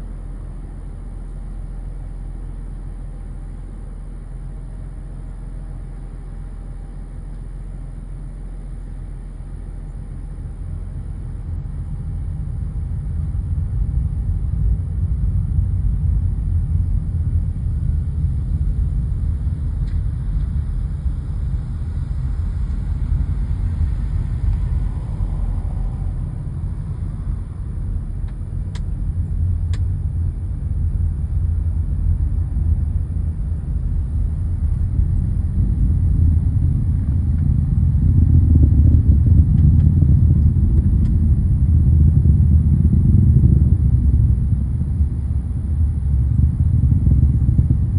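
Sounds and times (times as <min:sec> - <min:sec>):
distant rocket engine rumble: 0:09.1 - 0:47.9.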